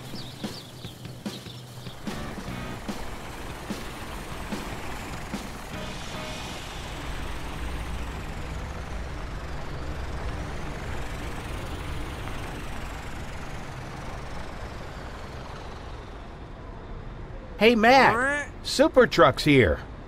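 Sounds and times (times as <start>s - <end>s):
cartoon truck engine rumble: 0.0s - 16.6s.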